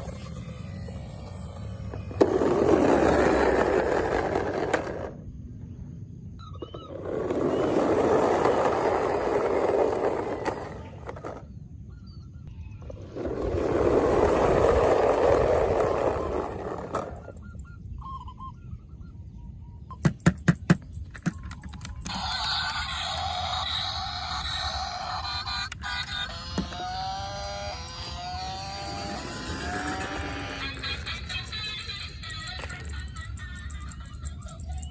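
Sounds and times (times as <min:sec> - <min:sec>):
toy cars rolling: 0:00.0 - 0:05.4, 0:06.5 - 0:11.6, 0:12.8 - 0:17.4, 0:20.9 - 0:34.9.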